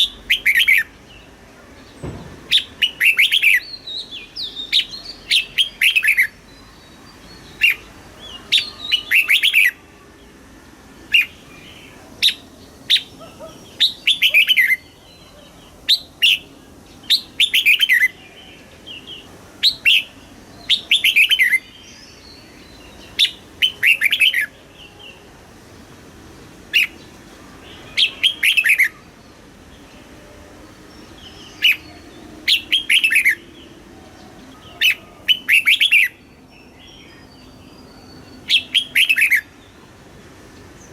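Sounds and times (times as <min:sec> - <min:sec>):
bulbul singing: 0:00.0 - 0:10.3, 0:11.1 - 0:25.2, 0:26.7 - 0:39.8.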